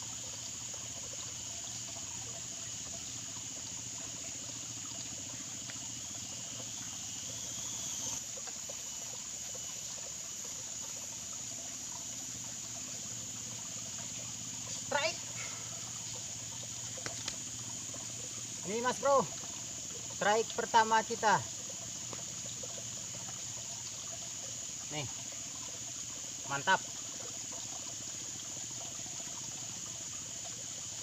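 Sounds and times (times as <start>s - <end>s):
high-pitched insect chorus: 0.0s - 31.0s
trickling water: 0.0s - 31.0s.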